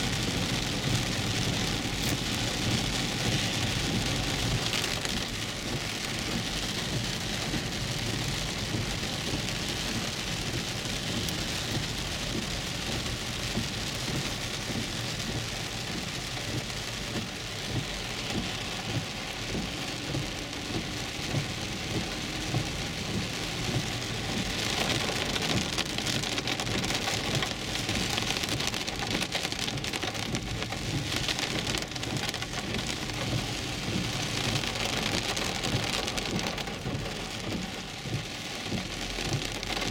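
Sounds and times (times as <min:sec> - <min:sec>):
car driving on wet road: 0:00.0 - 0:39.9
heavy rain on car roof: 0:00.0 - 0:39.9.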